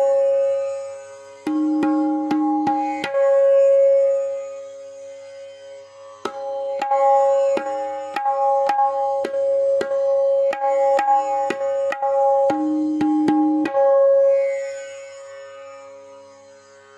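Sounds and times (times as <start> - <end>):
tabla strokes ringing: 0.0 - 16.4.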